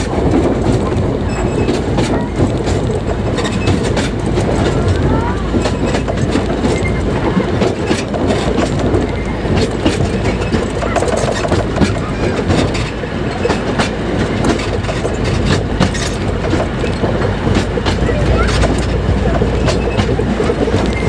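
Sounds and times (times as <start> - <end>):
train wheels rumbling on rails: 0.0 - 21.0
wheels clattering over rail joints: 0.0 - 21.0.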